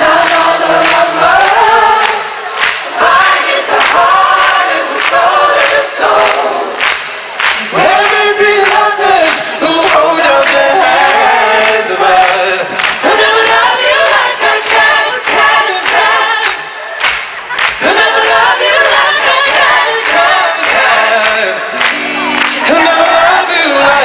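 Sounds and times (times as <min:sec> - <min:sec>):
crowd singing along: 0:00.0 - 0:24.0
pop band playing with singing: 0:00.0 - 0:24.0.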